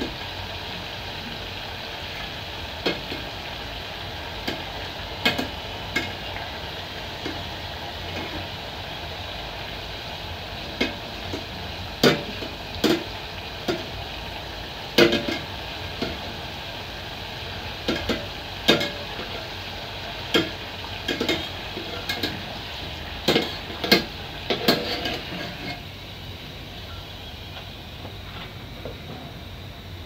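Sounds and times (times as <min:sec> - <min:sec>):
dough sizzling in hot oil: 0:00.0 - 0:30.0.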